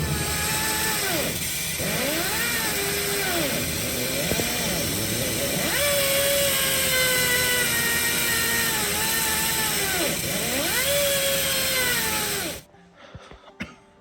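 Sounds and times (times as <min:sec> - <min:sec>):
power tool motor running: 0:00.0 - 0:12.7.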